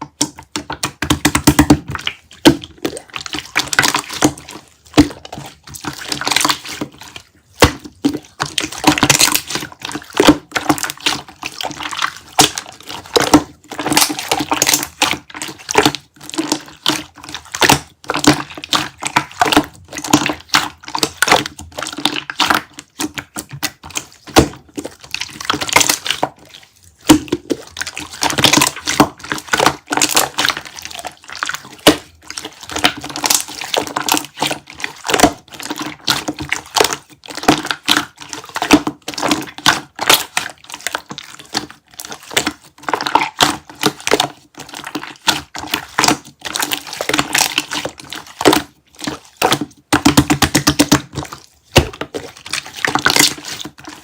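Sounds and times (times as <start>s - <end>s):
slime squishing and popping: 0.0s - 54.0s.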